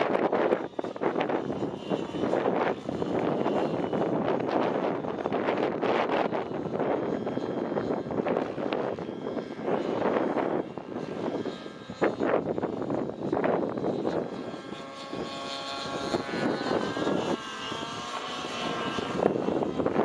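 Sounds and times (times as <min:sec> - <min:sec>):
engine whine: 0:00.0 - 0:20.0
model helicopter engine and rotor: 0:00.0 - 0:20.0.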